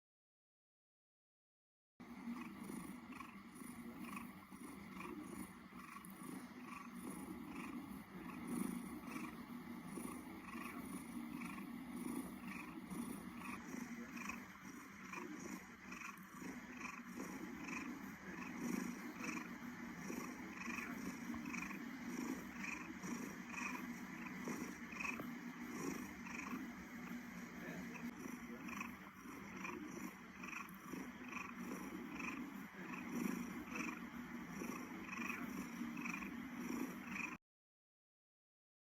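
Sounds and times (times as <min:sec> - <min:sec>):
cat purring: 0:02.0 - 0:37.4.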